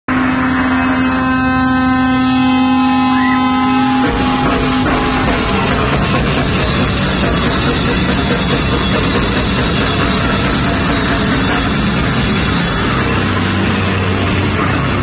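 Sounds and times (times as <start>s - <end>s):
heavy metal band playing: 0.1s - 15.0s
ringing distorted guitar note: 0.1s - 15.0s.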